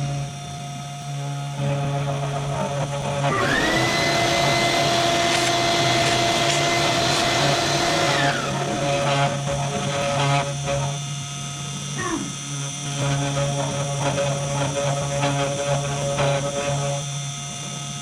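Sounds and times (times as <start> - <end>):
router motor whine: 0.0 - 18.0
steady low hum: 0.0 - 18.0.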